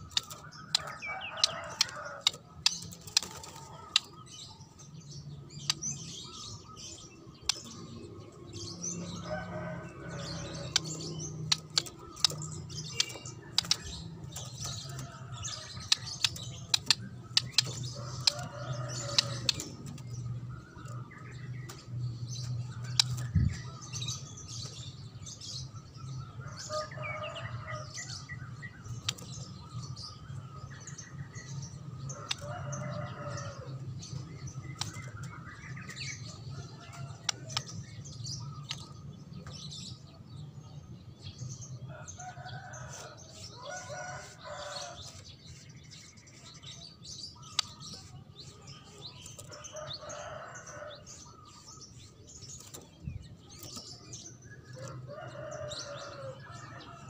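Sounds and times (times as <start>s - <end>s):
bird singing and chirping: 0.0s - 57.0s.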